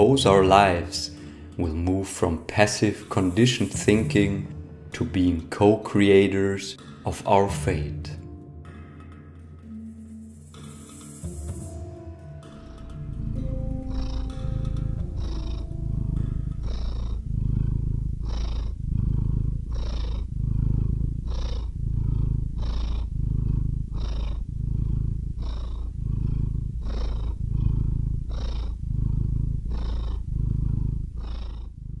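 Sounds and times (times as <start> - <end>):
cat purring: 0.0 - 8.2, 10.6 - 32.0.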